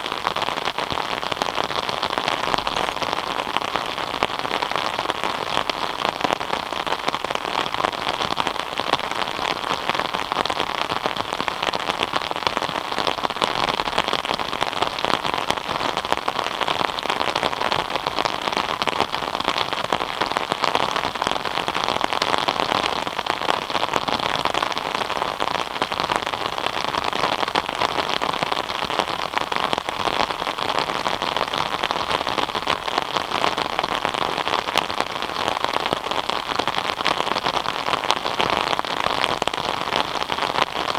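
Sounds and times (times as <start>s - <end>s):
rain drops ticking on a surface: 0.0s - 40.9s.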